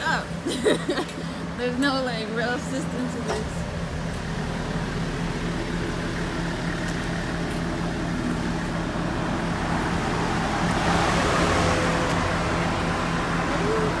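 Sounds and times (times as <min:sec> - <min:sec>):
minibus engine idling: 0:00.0 - 0:14.0.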